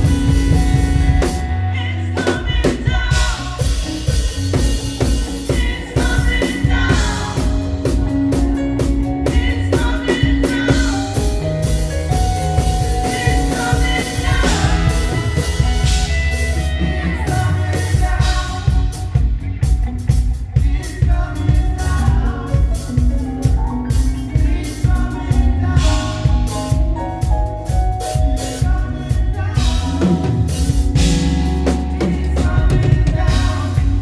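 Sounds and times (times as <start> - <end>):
live band playing praise music: 0.0 - 34.0
person singing: 0.0 - 34.0.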